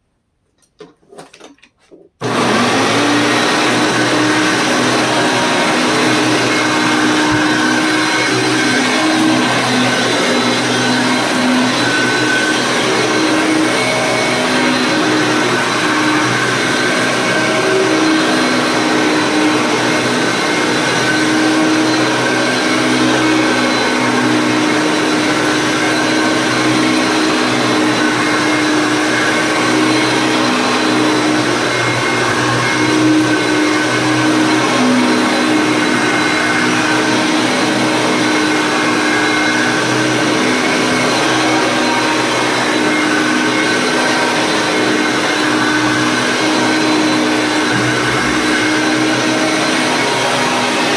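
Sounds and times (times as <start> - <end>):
vacuum cleaner running: 2.2 - 50.9.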